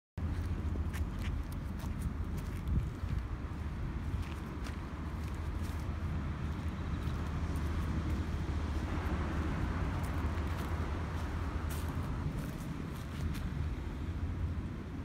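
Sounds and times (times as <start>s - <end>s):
low outdoor rumble: 0.2s - 15.0s.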